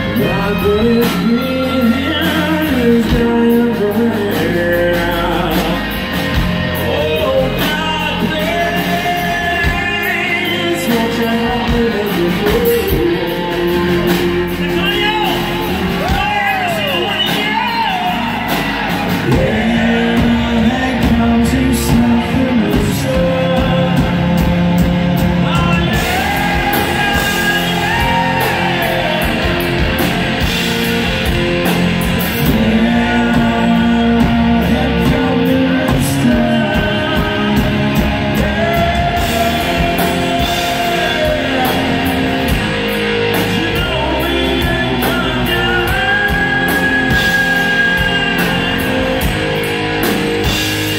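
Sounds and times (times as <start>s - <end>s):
drum kit with cymbals: 0.0s - 50.9s
electric guitars: 0.0s - 50.9s
person singing: 0.0s - 50.9s.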